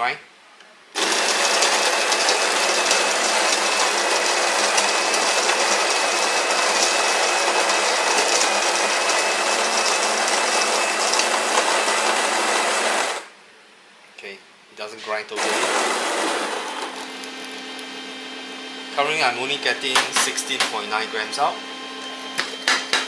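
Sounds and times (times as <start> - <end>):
coffee grinder whirring: 1.0 - 13.3, 15.4 - 23.0.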